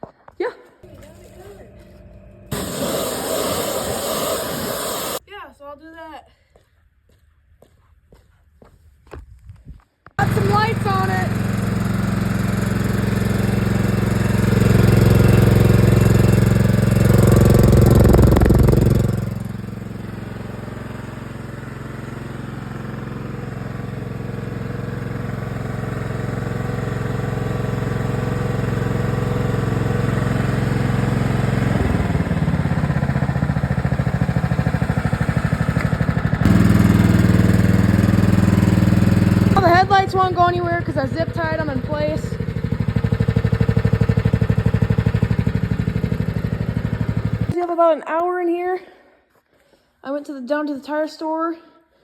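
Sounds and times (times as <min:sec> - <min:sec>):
riding lawn mower engine running: 0:00.8 - 0:05.2, 0:10.2 - 0:47.6.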